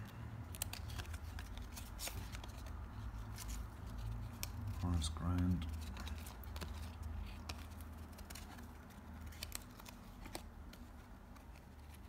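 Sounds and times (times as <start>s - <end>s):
cards flipped through by hand: 0.0s - 12.0s.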